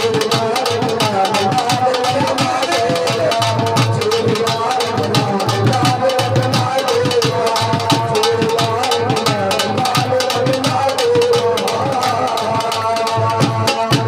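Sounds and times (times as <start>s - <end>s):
quick steady drum strokes: 0.0s - 14.0s.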